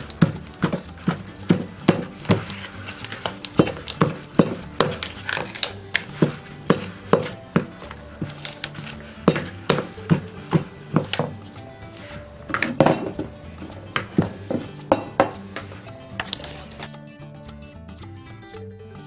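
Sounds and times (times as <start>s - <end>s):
background music with a steady beat: 0.0s - 19.0s.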